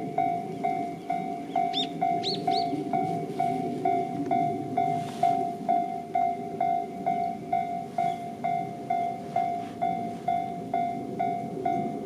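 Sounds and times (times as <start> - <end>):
level-crossing alarm dinging: 0.0 - 12.0.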